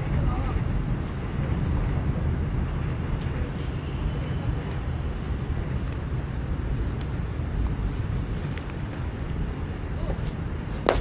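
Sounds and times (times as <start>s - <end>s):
low outdoor rumble: 0.0s - 3.9s, 4.7s - 11.0s
faint distant voices: 0.0s - 11.0s.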